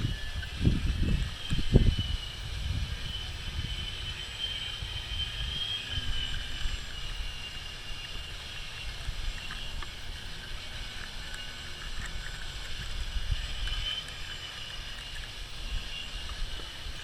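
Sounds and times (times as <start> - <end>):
distant model plane motor whine: 0.0 - 17.0
gusty wind on microphone: 0.0 - 17.0.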